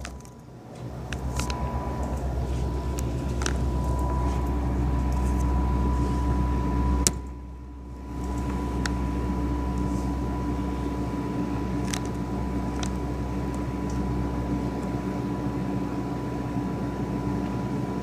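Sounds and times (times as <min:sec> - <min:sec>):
freight train rumbling: 0:00.0 - 0:16.1
thin steady whine: 0:00.0 - 0:18.0.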